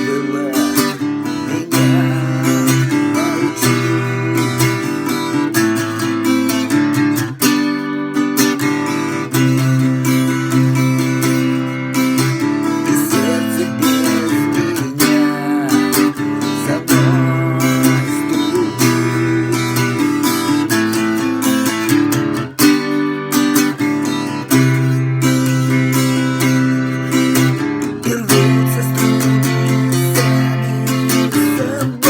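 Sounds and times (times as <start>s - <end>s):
strummed acoustic guitar: 0.0s - 32.0s.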